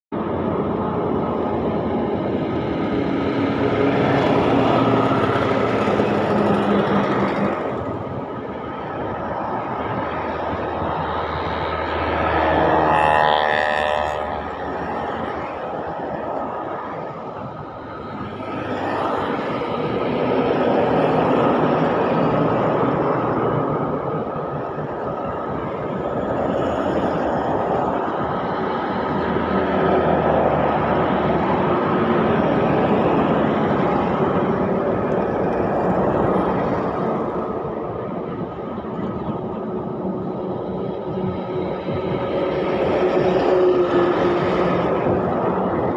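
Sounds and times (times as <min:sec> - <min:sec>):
trucks and bus passing: 0:00.1 - 0:45.9.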